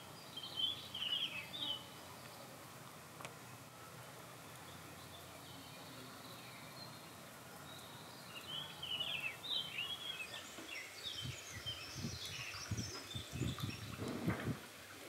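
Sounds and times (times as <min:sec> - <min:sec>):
small birds chirping: 0:00.0 - 0:02.6, 0:04.3 - 0:14.4.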